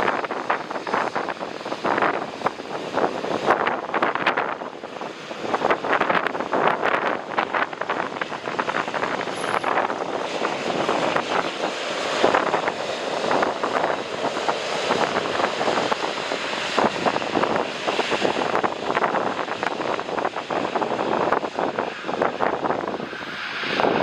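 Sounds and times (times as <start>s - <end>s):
jet airliner noise: 0.0s - 24.0s
wind buffeting microphone: 0.0s - 24.0s.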